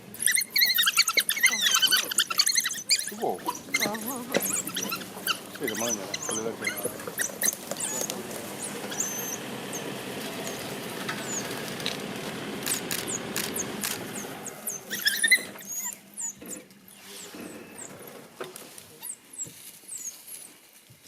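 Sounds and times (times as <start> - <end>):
wild dogs twittering and chirping: 0.0 - 20.6.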